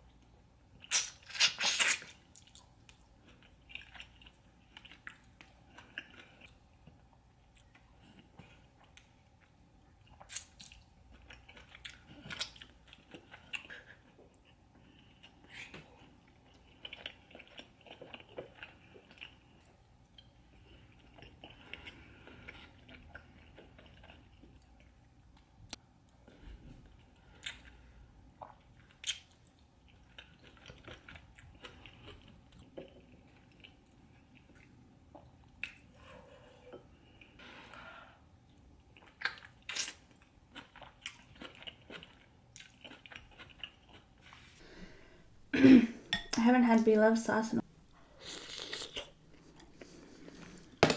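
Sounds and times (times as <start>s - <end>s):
person chewing seafood: 0.2s - 25.8s, 26.8s - 45.5s, 47.9s - 50.8s.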